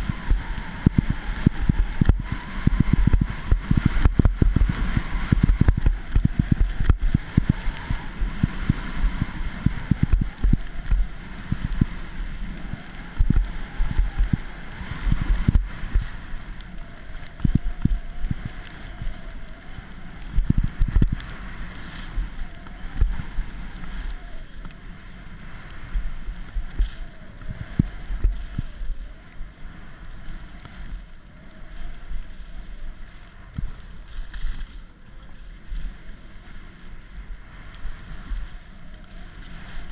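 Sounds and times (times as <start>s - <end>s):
skis sliding on snow: 0.0s - 39.9s
wind buffeting microphone: 0.0s - 39.9s.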